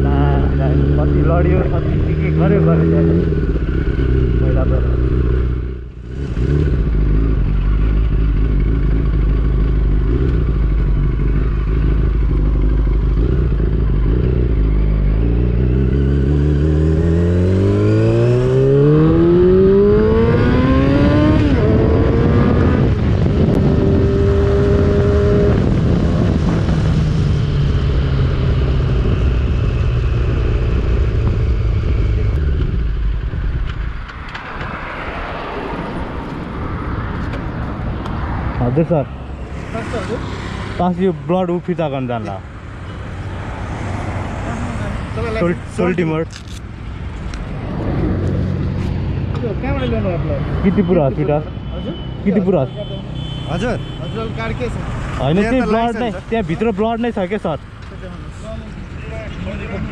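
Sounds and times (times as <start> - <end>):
motorcycle engine accelerating: 0.0 - 50.8.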